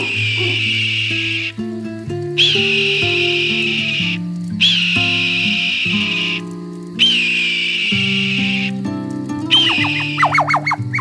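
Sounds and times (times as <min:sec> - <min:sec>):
hawk calling: 0:00.0 - 0:11.0
plucked acoustic guitar music: 0:00.0 - 0:11.0.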